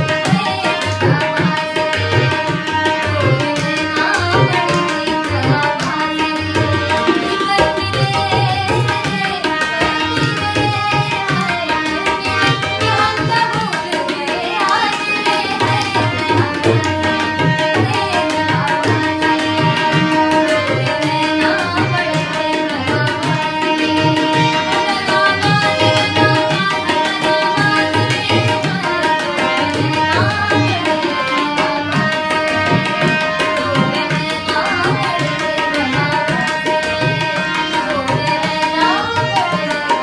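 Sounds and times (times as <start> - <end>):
harmonium sustained chords: 0.0 - 39.5
tabla playing rhythm: 0.0 - 40.0.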